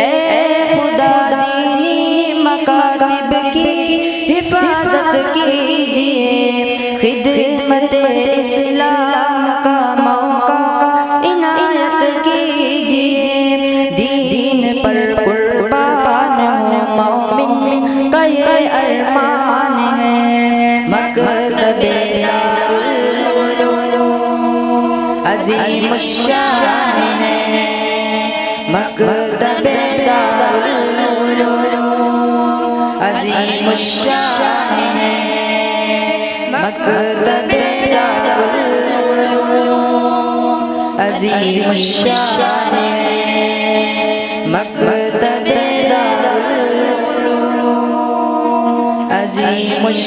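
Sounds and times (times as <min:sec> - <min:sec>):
boys singing through a microphone: 0:00.0 - 0:50.0.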